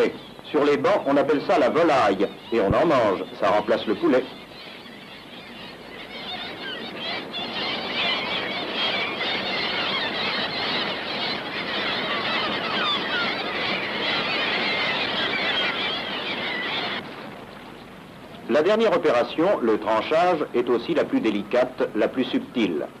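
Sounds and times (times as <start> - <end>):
flock of seabirds calling: 0.0 - 23.0.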